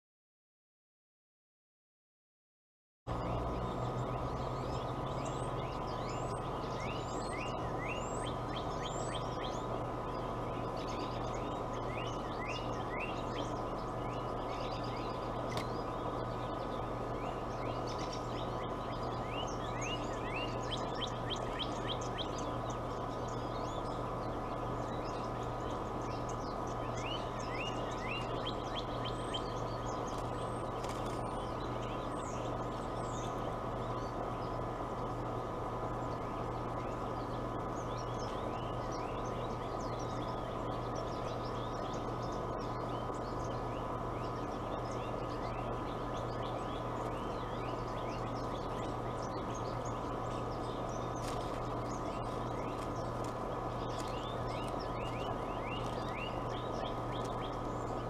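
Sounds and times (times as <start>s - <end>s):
birds chirping: 3.1s - 58.0s
steady low hum: 3.1s - 58.0s.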